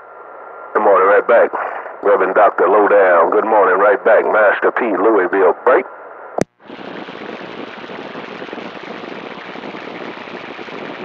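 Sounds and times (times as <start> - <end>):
crackly radio static hiss: 0.0 - 11.0.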